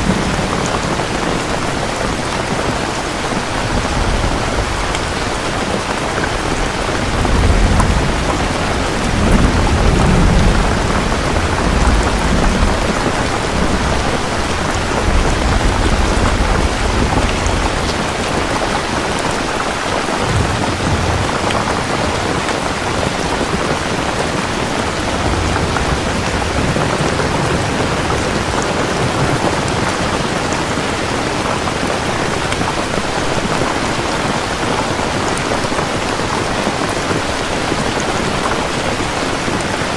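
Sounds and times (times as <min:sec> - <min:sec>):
rolling thunder: 0:00.0 - 0:32.7
heavy rain: 0:00.0 - 0:39.9.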